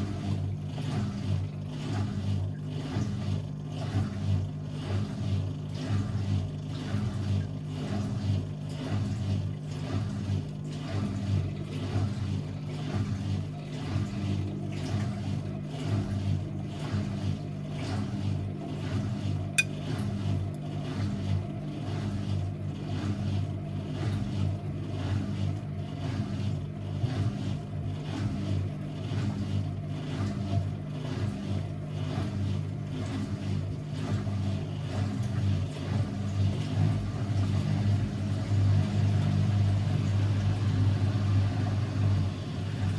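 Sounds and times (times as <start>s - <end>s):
washing machine motor hum pulsing: 0.0s - 42.9s.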